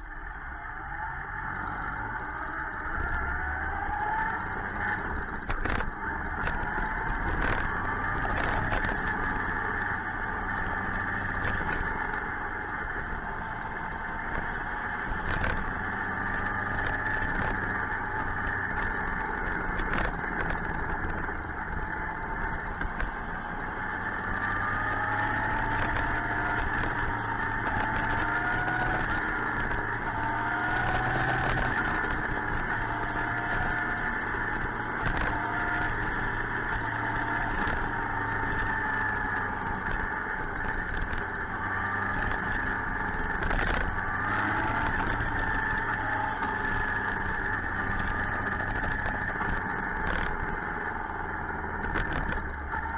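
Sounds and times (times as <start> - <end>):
motorcycle engine accelerating: 0.0 - 52.9
wind and road rush: 0.0 - 52.9.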